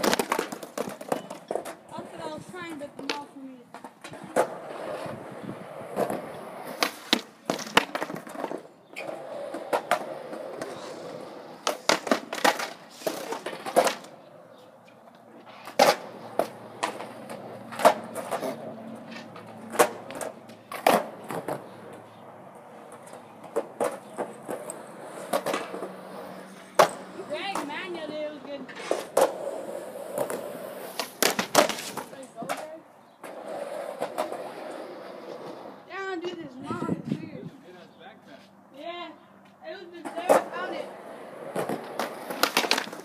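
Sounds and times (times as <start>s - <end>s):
skateboards clacking on ground: 0.0s - 37.0s, 38.8s - 43.0s
skateboard wheels rumbling on concrete: 0.0s - 37.5s, 39.7s - 43.0s.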